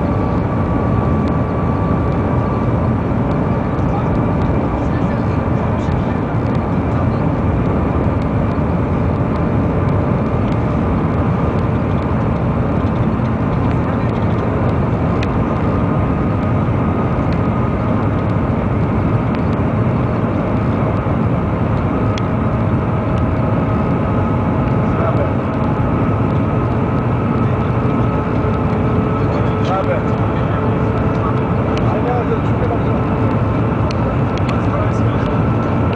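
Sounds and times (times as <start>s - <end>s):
faint steady whine: 0.0s - 35.9s
train cabin rushing roar: 0.0s - 35.9s.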